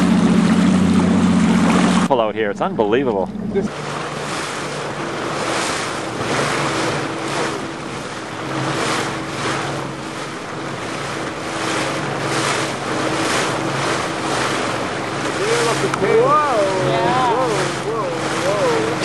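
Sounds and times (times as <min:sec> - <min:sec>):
boat motor humming: 0:00.0 - 0:19.0
water washing along hull: 0:00.0 - 0:19.0.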